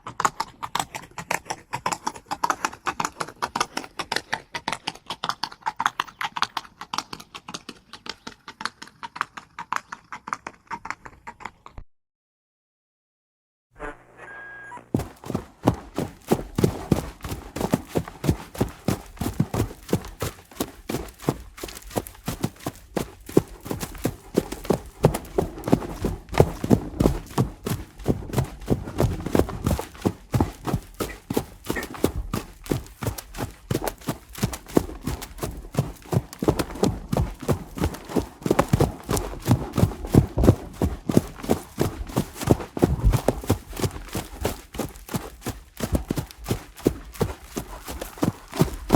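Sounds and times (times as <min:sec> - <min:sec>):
running horse hoofbeats: 0:00.0 - 0:11.7, 0:14.9 - 0:48.9.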